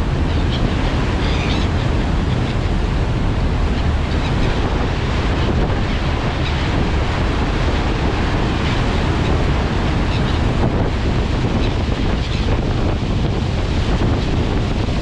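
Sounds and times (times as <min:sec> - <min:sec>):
churning water rushing: 0:00.0 - 0:15.0
wind buffeting microphone: 0:00.0 - 0:15.0.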